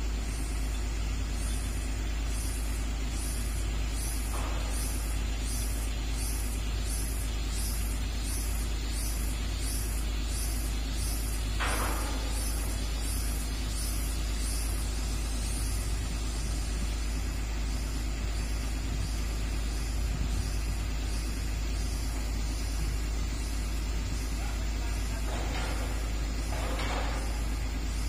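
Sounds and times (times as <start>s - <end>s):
excavator diesel engine rumble: 0.0s - 28.0s.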